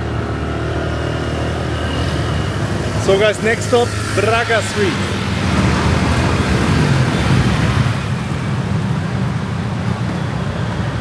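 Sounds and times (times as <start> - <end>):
engine and tyre hum: 0.0 - 11.0
traffic noise: 0.0 - 11.0
wind rushing over microphone: 1.4 - 11.0.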